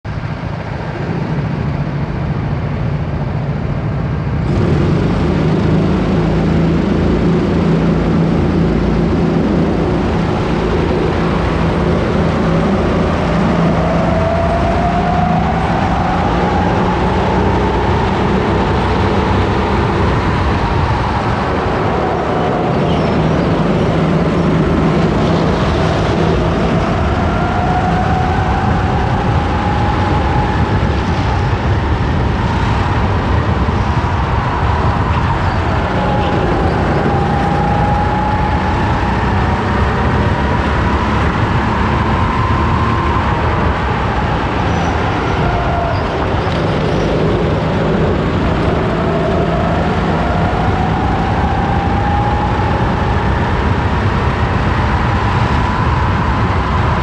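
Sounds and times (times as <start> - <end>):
wind and road noise: 0.0 - 57.0
kart engine revving: 4.4 - 57.0.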